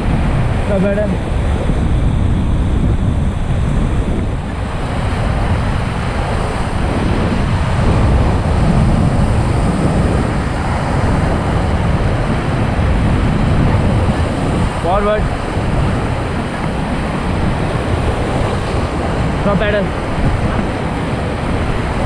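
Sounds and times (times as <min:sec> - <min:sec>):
wind buffeting microphone: 0:00.0 - 0:22.0
river rapids rushing: 0:04.3 - 0:22.0.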